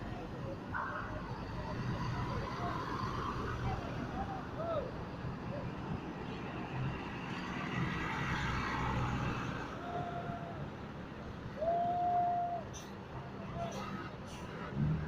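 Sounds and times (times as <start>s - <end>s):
bus engines running: 0.0s - 15.0s
traffic noise: 0.0s - 15.0s.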